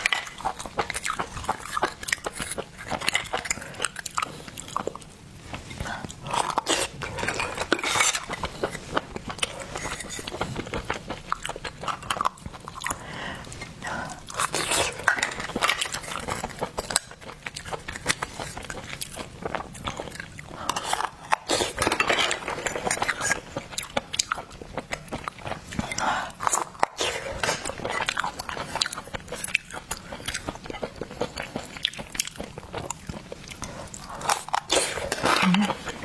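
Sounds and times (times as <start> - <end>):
wet chewing and crunching: 0.0 - 36.0.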